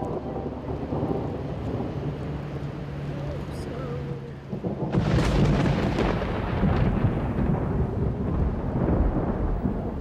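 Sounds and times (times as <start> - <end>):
thunder rolling: 0.0 - 10.0.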